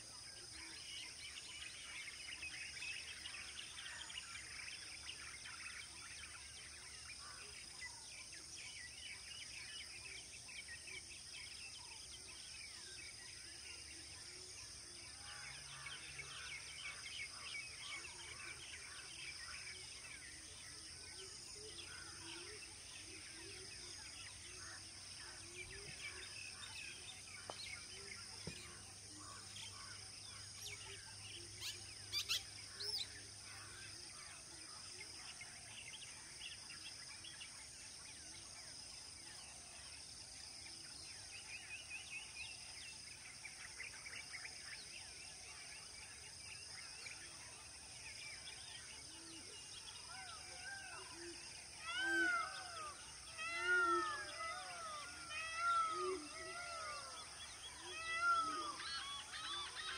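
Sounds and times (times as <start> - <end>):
insect drone: 0.0 - 59.9.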